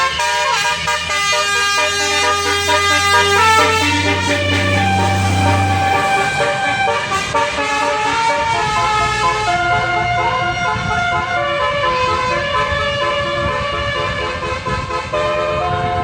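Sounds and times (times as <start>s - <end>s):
bus musical horn tune: 0.0s - 16.0s
engine and traffic rumble: 0.0s - 16.0s.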